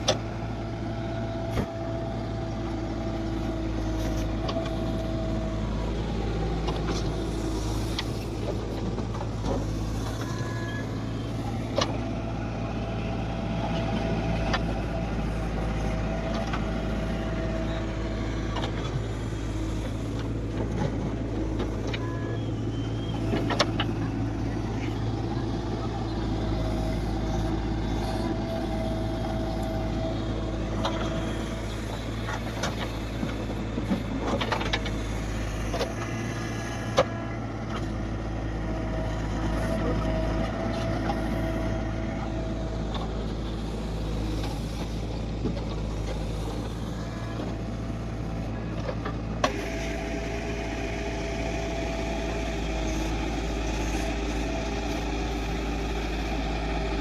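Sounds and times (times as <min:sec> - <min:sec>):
heavy diesel engine running: 0:00.0 - 0:57.0
high machinery whine: 0:00.0 - 0:57.0.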